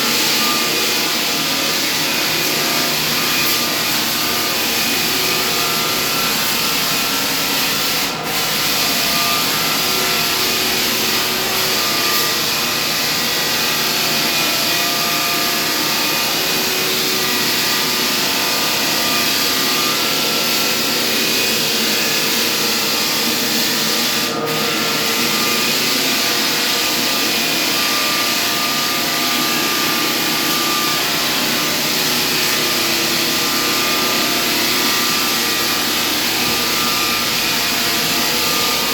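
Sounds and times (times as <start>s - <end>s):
floor sanding machine grinding: 0.0s - 38.9s.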